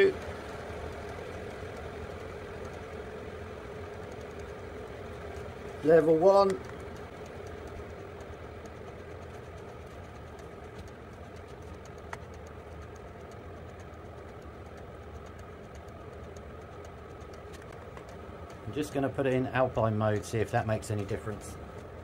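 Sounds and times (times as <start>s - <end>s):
faint regular ticking: 0.0s - 22.0s
heater humming: 0.0s - 22.0s.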